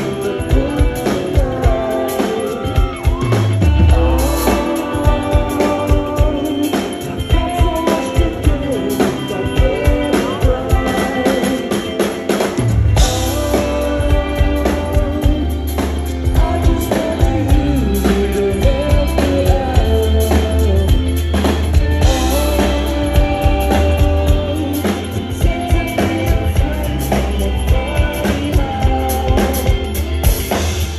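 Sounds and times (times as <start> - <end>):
drum kit: 0.0 - 30.9
electric bass: 0.0 - 30.9
electric guitars: 0.0 - 30.9
lead vocal singing: 0.0 - 30.9.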